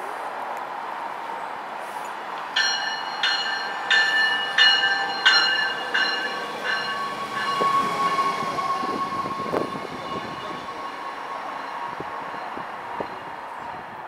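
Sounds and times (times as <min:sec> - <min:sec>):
high whine from train: 0:00.0 - 0:14.0
train rolling past: 0:00.2 - 0:14.0
train bell ringing: 0:02.6 - 0:14.0.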